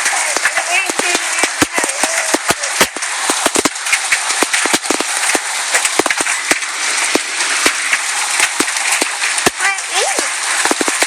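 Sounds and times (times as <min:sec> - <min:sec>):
hailstones striking hard surfaces: 0:00.0 - 0:11.0
heavy rain hiss: 0:00.0 - 0:11.0.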